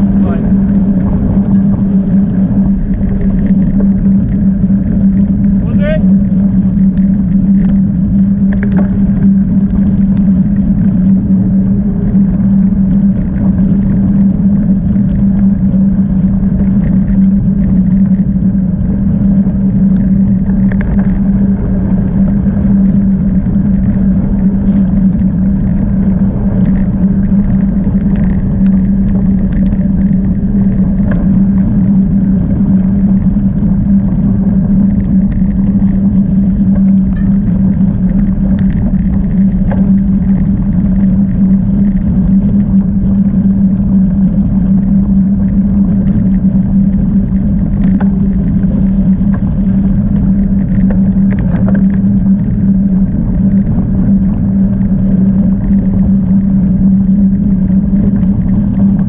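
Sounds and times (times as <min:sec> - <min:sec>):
bicycle clicks and rattles: 0:00.0 - 0:59.0
bicycle tyre noise: 0:00.0 - 0:59.0
low hum: 0:00.0 - 0:59.0
wind noise: 0:00.0 - 0:59.0.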